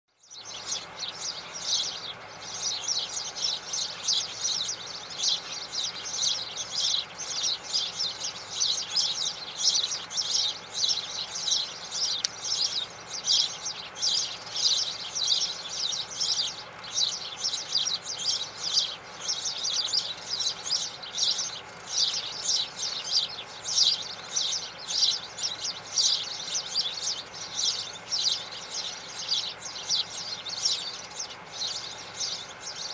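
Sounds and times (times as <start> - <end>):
sparrows chirping: 0.1 - 32.9.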